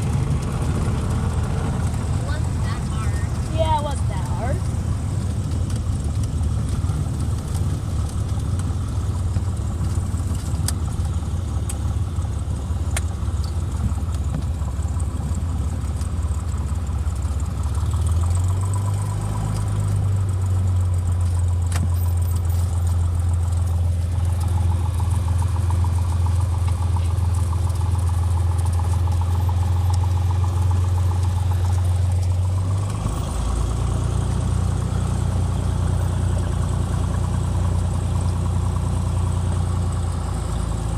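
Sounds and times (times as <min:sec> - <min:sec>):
aircraft piston engine and propeller: 0:00.0 - 0:40.9.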